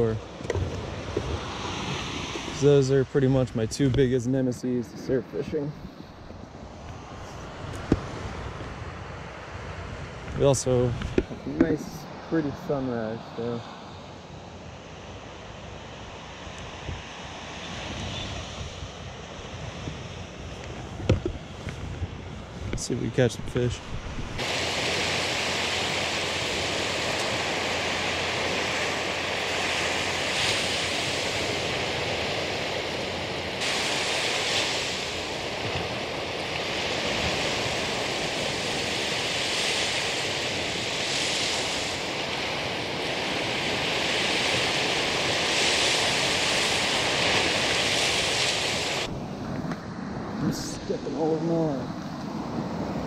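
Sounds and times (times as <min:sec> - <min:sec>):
surf washing up beach: 0:00.0 - 0:53.0.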